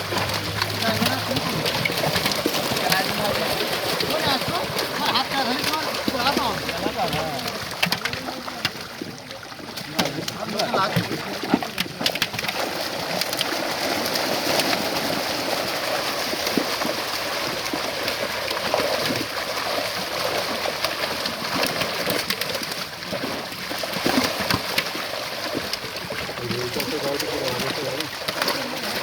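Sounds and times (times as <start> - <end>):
water splashing and sloshing: 0.0 - 29.0.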